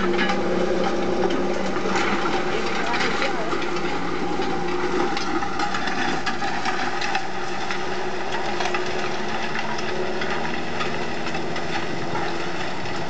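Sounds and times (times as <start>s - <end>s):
disc harrow rattling: 0.0s - 13.0s
tractor engine under load: 0.0s - 13.0s.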